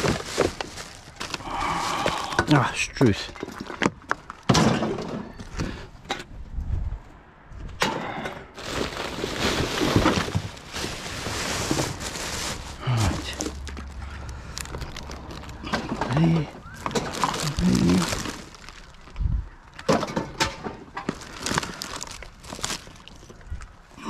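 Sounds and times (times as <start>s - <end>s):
rubbish rustling and clattering: 0.0s - 5.6s, 8.6s - 23.7s.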